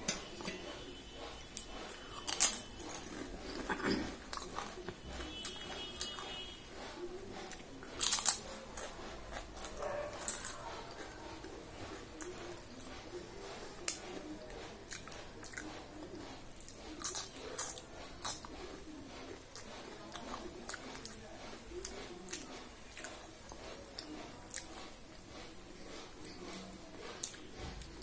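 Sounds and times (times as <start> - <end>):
person chewing: 0.0 - 28.0.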